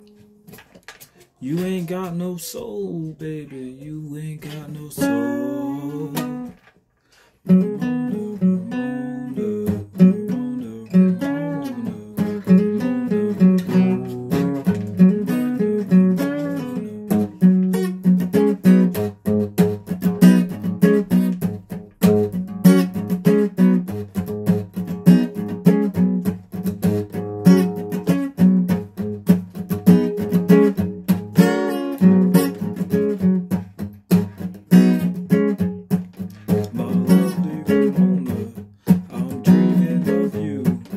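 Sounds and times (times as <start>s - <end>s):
solo guitar playing: 1.4s - 6.7s, 7.4s - 40.9s.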